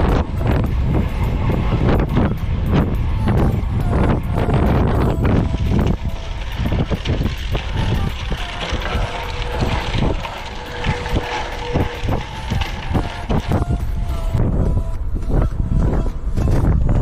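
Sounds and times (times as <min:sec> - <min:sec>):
bike rattling and knocking: 0:00.0 - 0:14.4
tyres rumbling on gravel: 0:00.0 - 0:17.0
wind buffeting microphone: 0:00.0 - 0:17.0.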